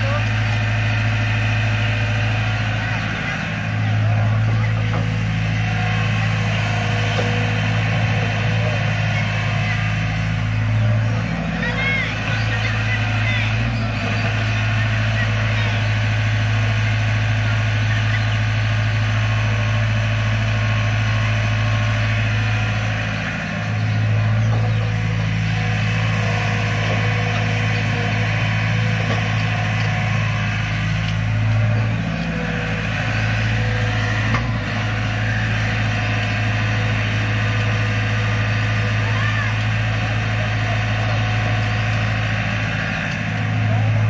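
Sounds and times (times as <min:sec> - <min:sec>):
diesel engines running: 0:00.0 - 0:44.0.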